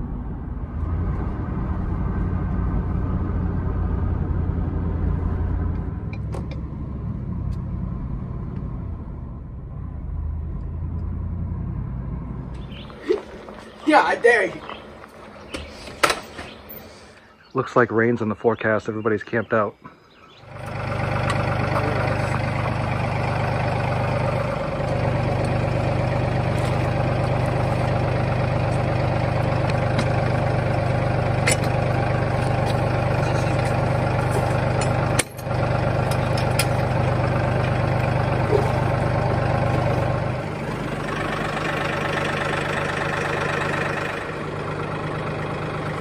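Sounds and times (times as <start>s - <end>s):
tractor engine idling: 1.8s - 46.0s.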